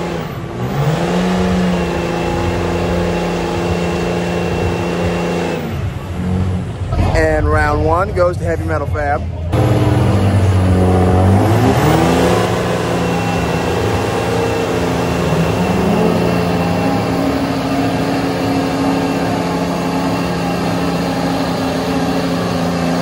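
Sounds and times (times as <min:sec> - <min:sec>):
diesel truck engines revving: 0:00.0 - 0:23.0.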